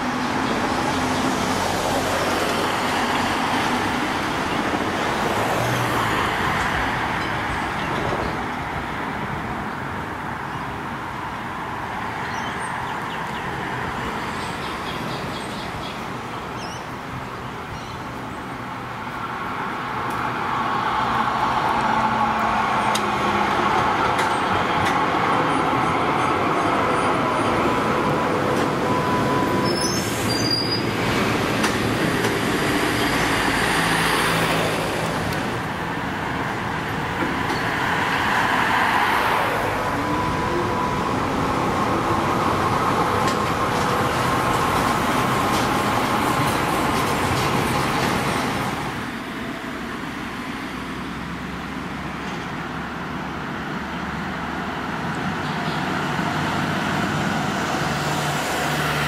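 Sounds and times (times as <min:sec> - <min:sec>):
road traffic: 0:00.0 - 0:59.0
tram passing on rails: 0:00.0 - 0:59.0.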